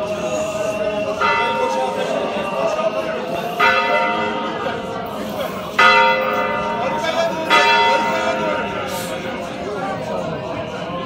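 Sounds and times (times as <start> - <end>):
church bell tolling: 0.0 - 10.9.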